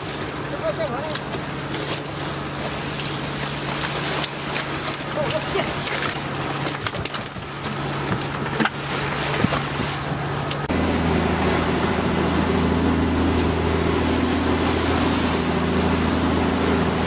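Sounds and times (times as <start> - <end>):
boat engine humming: 0.0 - 17.0
sea noise: 0.0 - 17.0
wind: 0.0 - 17.0.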